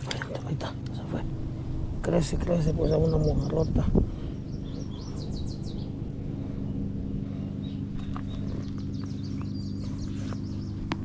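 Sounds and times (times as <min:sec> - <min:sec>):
low mechanical hum: 0:00.0 - 0:11.0
small birds chirping: 0:00.0 - 0:11.0.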